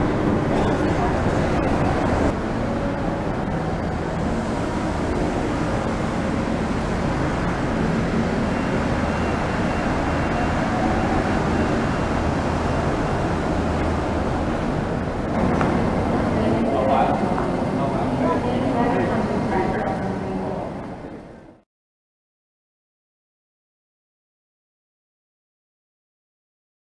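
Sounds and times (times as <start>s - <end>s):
train rumbling past: 0.0s - 21.6s.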